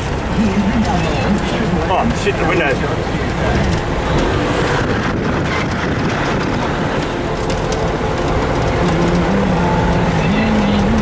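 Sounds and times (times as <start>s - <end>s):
road and wind noise: 0.0s - 11.0s
truck engine running: 0.0s - 11.0s.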